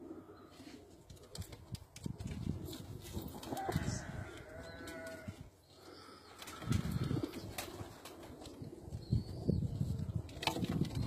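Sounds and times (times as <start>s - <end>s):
pigeons cooing: 0.0s - 1.5s, 2.3s - 11.0s.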